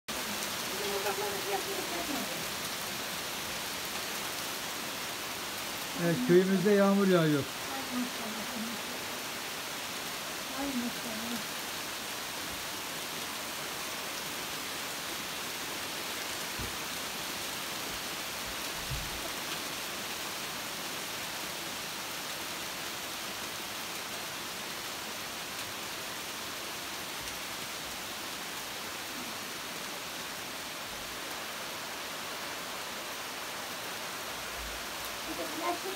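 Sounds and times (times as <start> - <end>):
heavy rain on leaves: 0.1 - 35.9.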